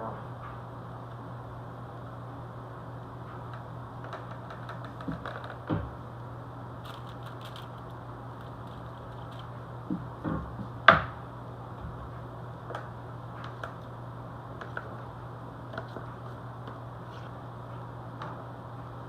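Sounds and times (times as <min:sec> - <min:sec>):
appliance humming: 0:00.0 - 0:19.0.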